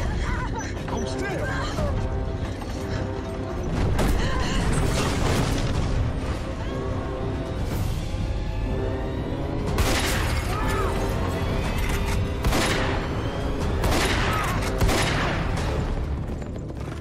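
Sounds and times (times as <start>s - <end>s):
dramatic trailer music: 0.0s - 17.0s.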